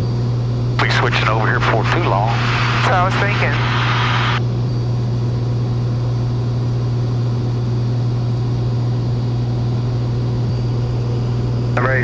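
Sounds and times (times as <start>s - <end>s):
light aircraft engine droning in cabin: 0.0s - 12.0s.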